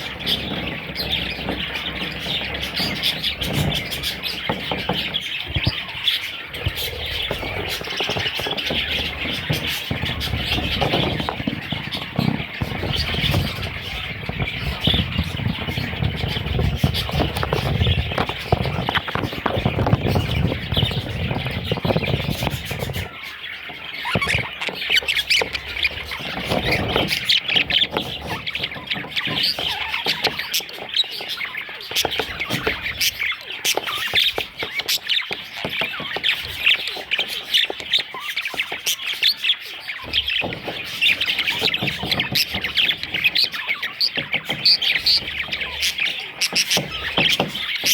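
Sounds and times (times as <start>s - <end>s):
budgerigars chattering and squawking: 0.0s - 47.9s.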